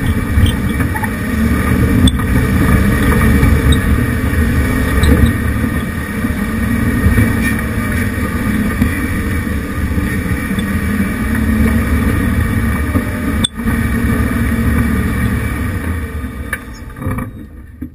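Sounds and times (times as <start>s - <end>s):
engine running at low speed: 0.0s - 17.9s.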